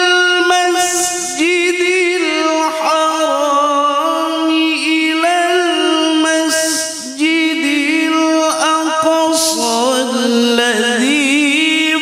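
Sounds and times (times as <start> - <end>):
man chanting over loudspeakers: 0.0 - 12.0.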